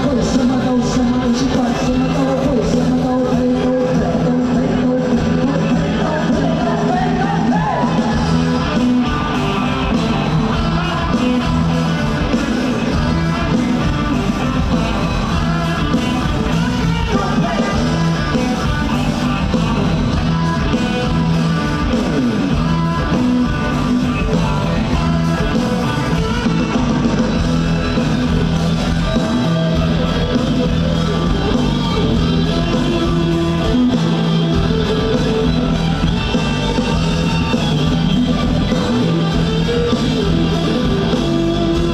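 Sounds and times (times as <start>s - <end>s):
drums: 0.0s - 41.9s
electric guitar: 0.0s - 41.9s
person singing: 0.0s - 41.9s.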